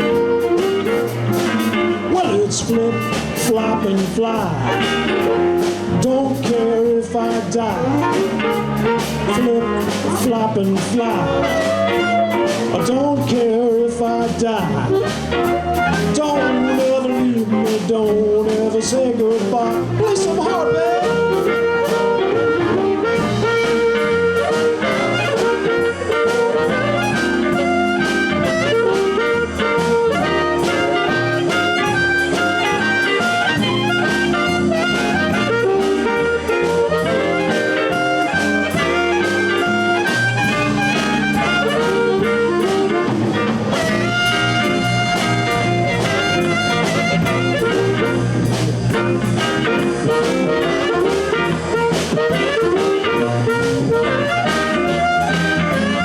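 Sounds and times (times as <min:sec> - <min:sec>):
blues harmonica solo: 0:00.0 - 0:10.4, 0:11.0 - 0:17.9, 0:19.7 - 0:56.0
drums: 0:00.0 - 0:56.0
electric bass: 0:00.0 - 0:56.0
electric guitar: 0:00.0 - 0:56.0.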